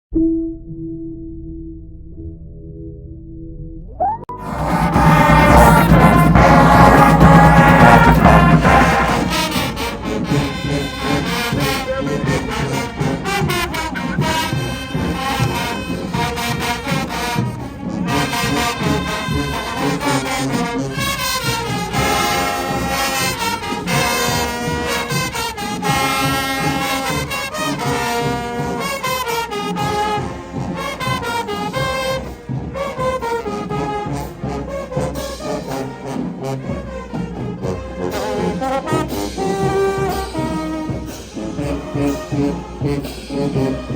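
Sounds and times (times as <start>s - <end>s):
brass band music: 4.3s - 43.9s
trombones: 4.3s - 43.9s.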